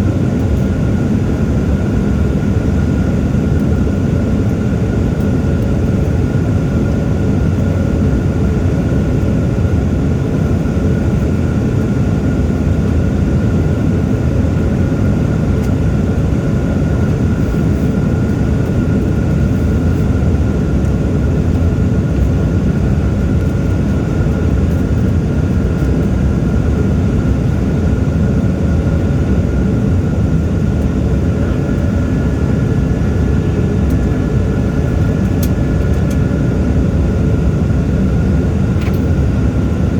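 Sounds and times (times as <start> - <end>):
engine and airflow rumble: 0.0 - 39.9.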